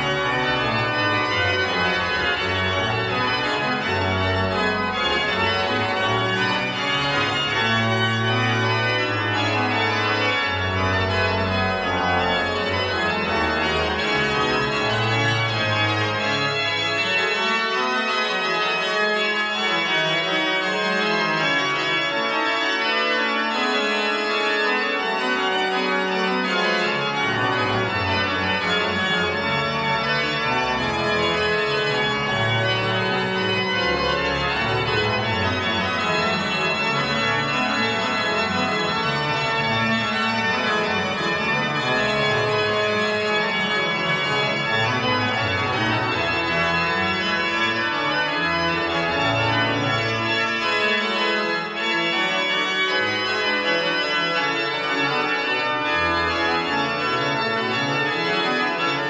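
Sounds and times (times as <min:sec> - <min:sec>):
organ pedal bass line: 0:00.0 - 0:59.0
pipe organ chords: 0:00.0 - 0:59.0.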